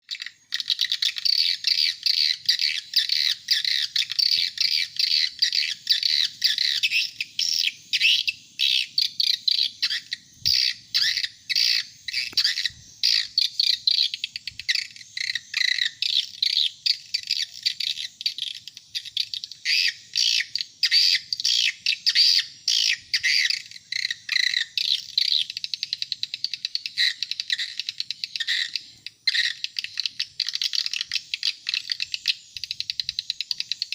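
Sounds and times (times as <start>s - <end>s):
swiftlet chirps and twitters: 0.1s - 33.9s.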